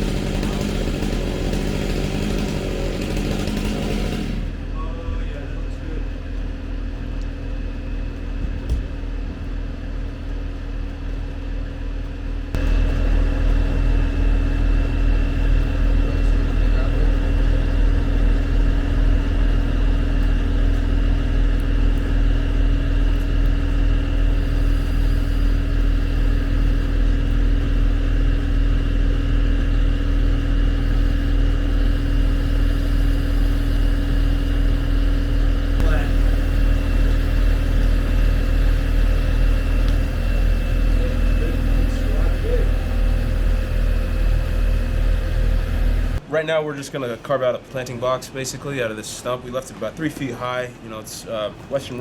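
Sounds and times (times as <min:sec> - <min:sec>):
heavy machine engine running: 0:00.0 - 0:46.3.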